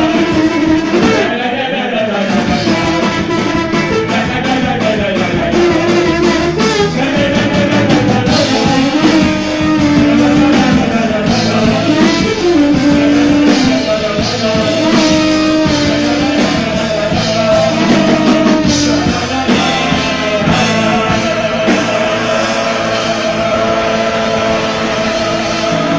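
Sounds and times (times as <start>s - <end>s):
trombone: 0.0s - 1.5s, 2.2s - 25.9s
drums: 0.0s - 25.9s
electric guitar: 0.0s - 25.9s
men singing together: 0.0s - 25.9s
accordion: 2.1s - 25.9s.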